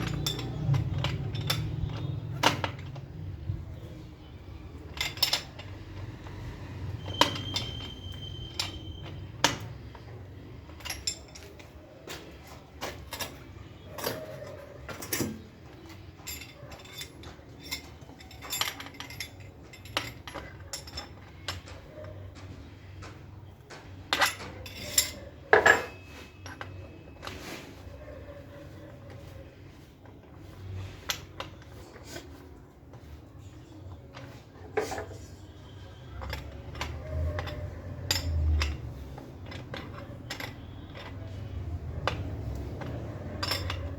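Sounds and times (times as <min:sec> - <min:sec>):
metallic rings: 0:00.0 - 0:11.8, 0:12.8 - 0:22.4, 0:24.0 - 0:32.4, 0:33.4 - 0:43.9
metal tools clinking and knocking: 0:00.0 - 0:43.9.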